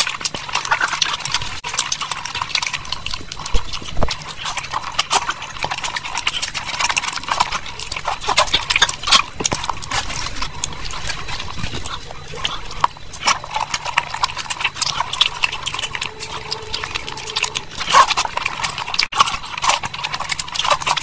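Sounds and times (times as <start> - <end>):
wet chewing clicks and smacks: 0.0 - 21.0.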